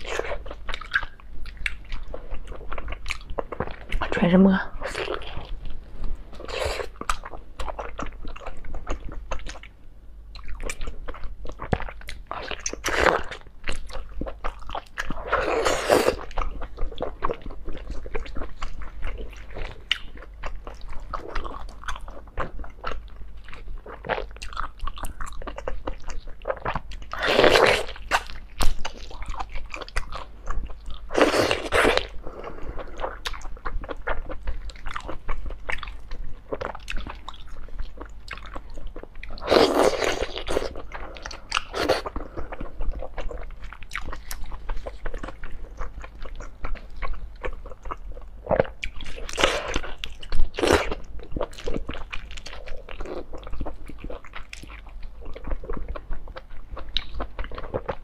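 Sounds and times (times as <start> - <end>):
wet chewing with mouth clicks: 0.0 - 4.1, 4.8 - 58.0.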